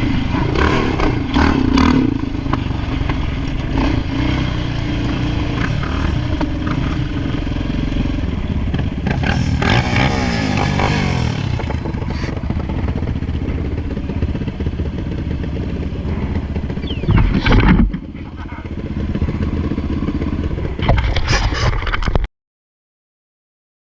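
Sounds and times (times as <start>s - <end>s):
atv engine revving: 0.0s - 21.7s.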